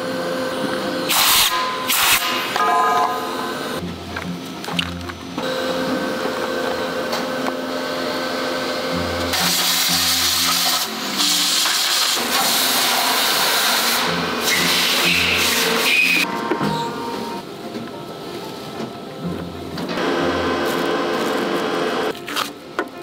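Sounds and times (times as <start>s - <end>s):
factory machinery hum: 0.0s - 23.0s.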